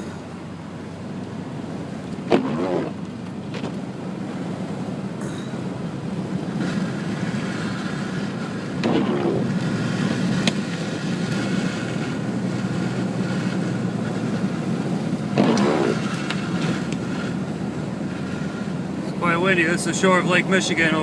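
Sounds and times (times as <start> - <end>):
car engine running: 0.0 - 21.0
tyres on the road: 0.0 - 21.0.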